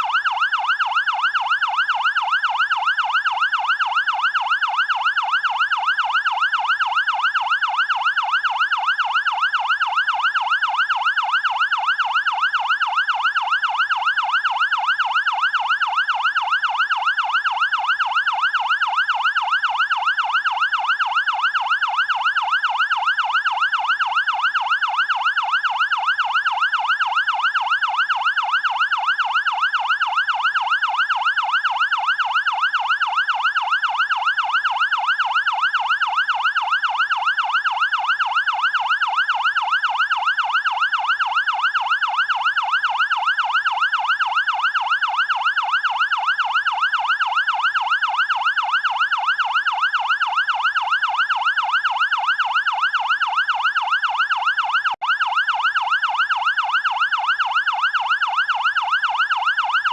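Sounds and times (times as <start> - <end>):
fire engine siren yelping: 0.0 - 59.9.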